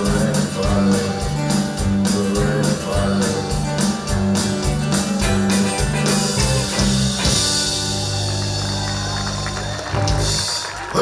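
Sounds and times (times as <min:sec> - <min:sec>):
country band playing: 0:00.0 - 0:11.0.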